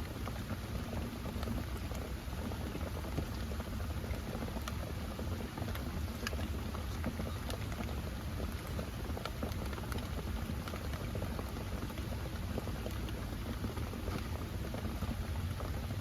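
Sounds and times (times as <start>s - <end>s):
raindrops tapping close by: 0.0s - 16.0s
steady rain: 0.0s - 16.0s.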